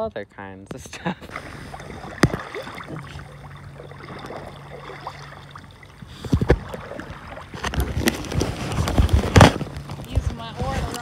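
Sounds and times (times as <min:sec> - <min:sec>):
faint low hum: 0:00.1 - 0:11.0
water lapping and splashing: 0:01.2 - 0:11.0.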